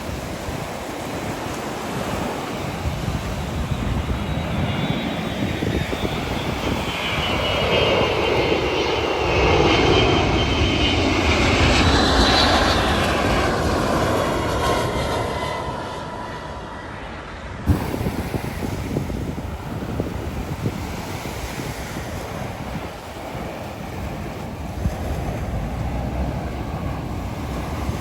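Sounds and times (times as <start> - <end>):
wind noise: 0.0 - 16.4, 17.4 - 28.0
jet airliner passing overhead: 0.0 - 28.0.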